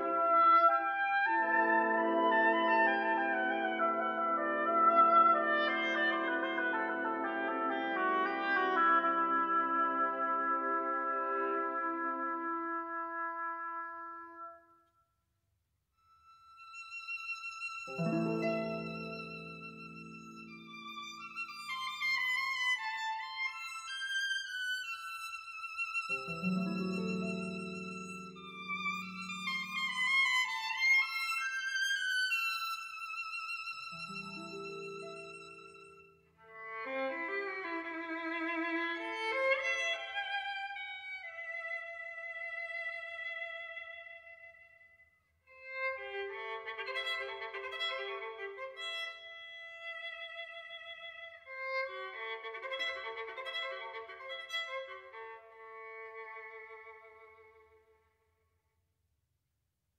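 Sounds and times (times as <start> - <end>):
violin melody: 0.0 - 14.3, 16.1 - 44.7, 45.5 - 58.0.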